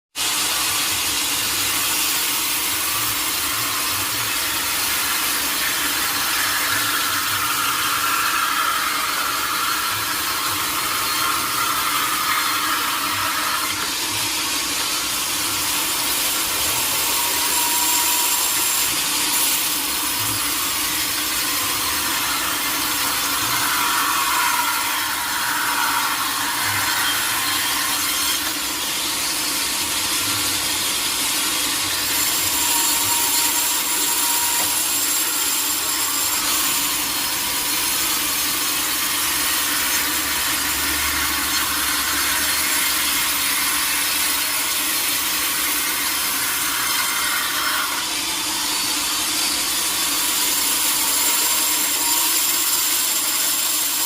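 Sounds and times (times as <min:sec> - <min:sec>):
sawmill saw cutting wood: 0:00.1 - 0:54.0.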